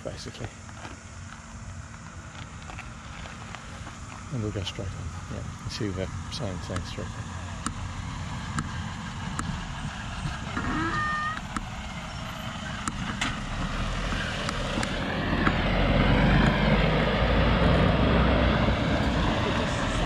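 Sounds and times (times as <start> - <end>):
tyres on gravel: 0.0 - 16.8
truck engine rumble: 0.0 - 20.0.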